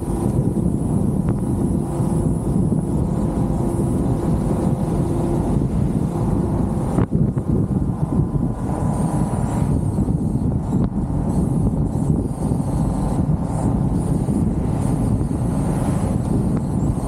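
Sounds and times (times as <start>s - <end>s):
road and engine rumble: 0.0s - 17.0s
wind buffeting microphone: 0.0s - 17.0s.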